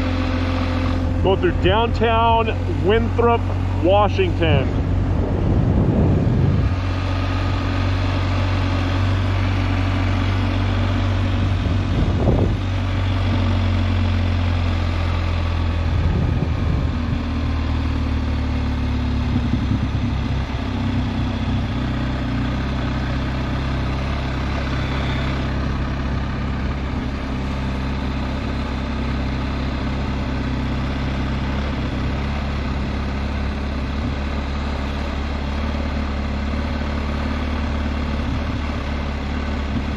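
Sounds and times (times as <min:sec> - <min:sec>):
motorcycle engine humming: 0:00.0 - 0:39.9.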